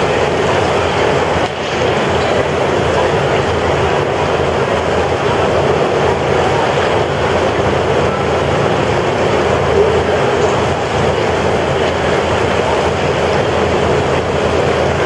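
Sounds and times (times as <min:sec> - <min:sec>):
fans blowing air: 0:00.0 - 0:15.0.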